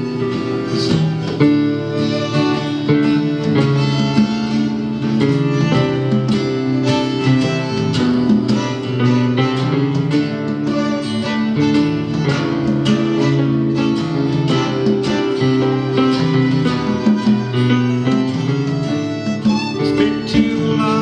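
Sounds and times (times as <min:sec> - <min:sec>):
live band playing: 0:00.0 - 0:21.0
plucked guitar line: 0:00.0 - 0:21.0.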